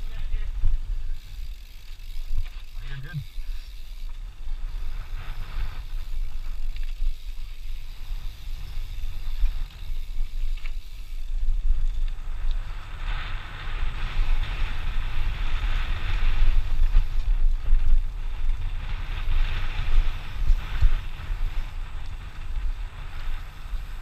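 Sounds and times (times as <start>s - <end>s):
tyres on loose dirt and stones: 0.0s - 24.0s
wind buffeting microphone: 0.0s - 24.0s.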